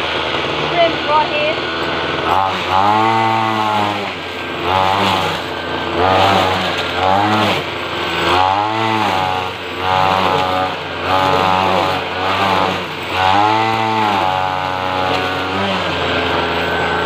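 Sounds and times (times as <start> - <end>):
string trimmer engine revving: 0.0 - 17.0.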